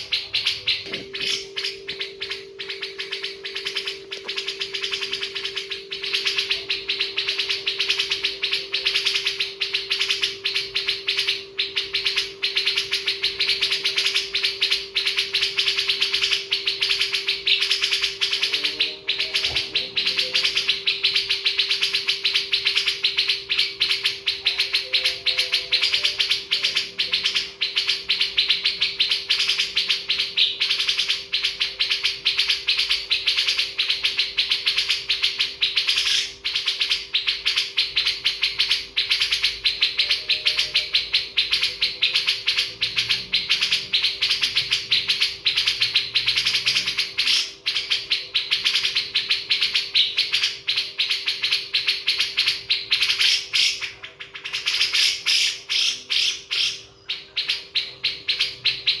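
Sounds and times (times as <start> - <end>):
faint steady hum: 0.0 - 59.0
many birds chirping: 0.0 - 59.0.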